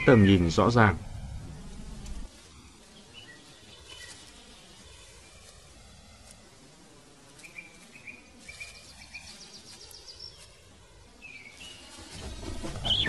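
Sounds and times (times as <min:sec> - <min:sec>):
birds chirping: 0:00.0 - 0:13.0
faint forest hiss: 0:00.0 - 0:13.0.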